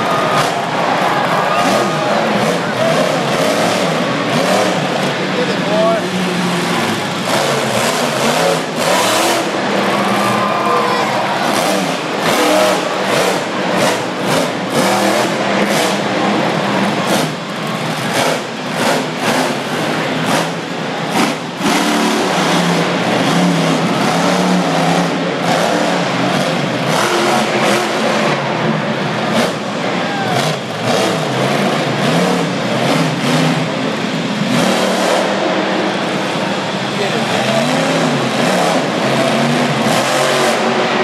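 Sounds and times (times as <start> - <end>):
truck engine revving: 0.0 - 41.0.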